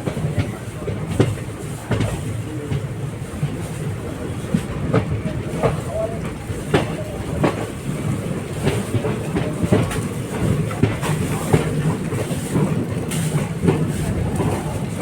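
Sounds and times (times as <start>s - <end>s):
train wheels rumbling on rails: 0.0s - 15.0s
wheels clicking and clacking: 0.0s - 15.0s.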